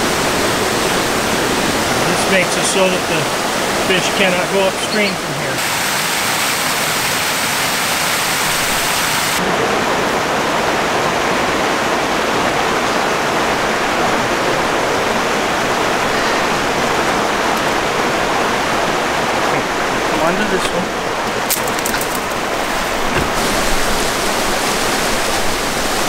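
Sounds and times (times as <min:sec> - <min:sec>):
small waterfall rushing: 0:00.0 - 0:26.0
stream rushing: 0:00.0 - 0:26.0.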